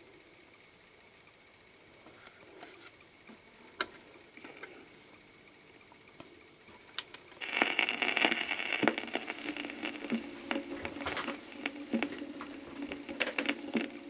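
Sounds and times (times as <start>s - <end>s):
record surface hiss and crackles: 0.0s - 14.0s.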